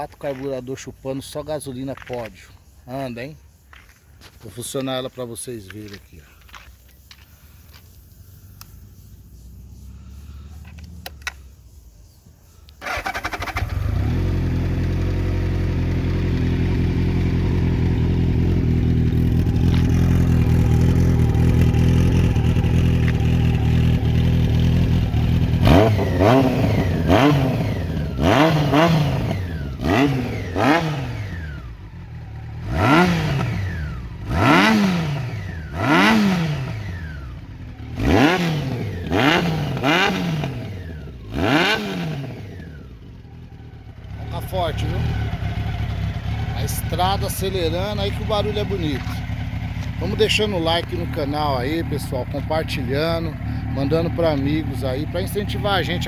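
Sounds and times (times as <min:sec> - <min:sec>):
motorcycle engine revving: 0:06.4 - 0:11.5, 0:12.8 - 0:56.0
motorcycle engine idling: 0:06.4 - 0:12.0, 0:12.8 - 0:56.0.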